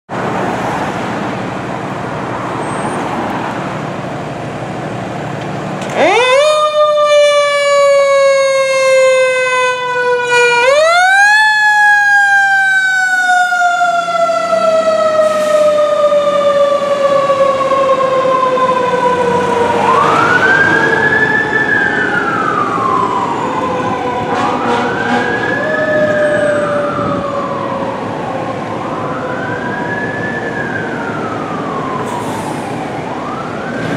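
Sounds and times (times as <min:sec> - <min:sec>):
fire engine siren wailing: 0:00.2 - 0:33.9.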